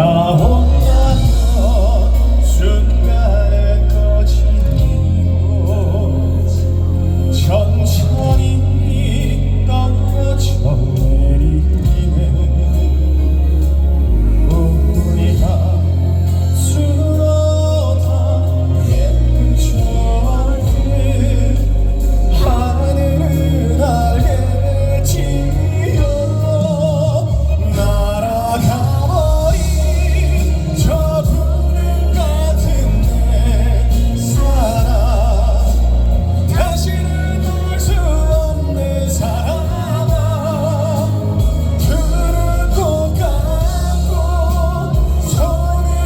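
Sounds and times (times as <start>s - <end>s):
amplified backing band: 0.0s - 46.0s
man singing slow ballad: 0.0s - 46.0s.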